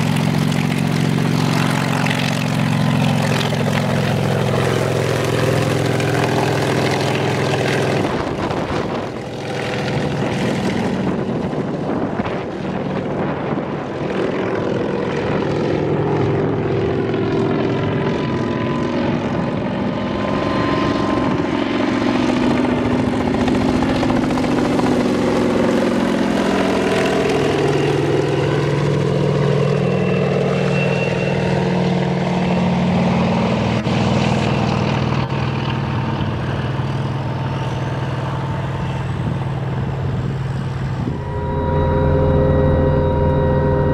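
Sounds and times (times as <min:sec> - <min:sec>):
helicopter engines and rotors droning: 0:00.0 - 0:43.9
thin siren-like whine: 0:00.0 - 0:43.9.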